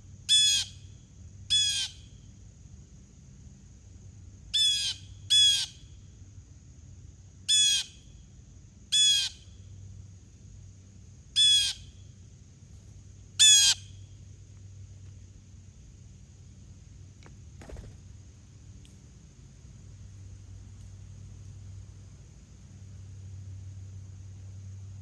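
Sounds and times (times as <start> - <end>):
faint high-pitched hum: 0.0 - 25.0.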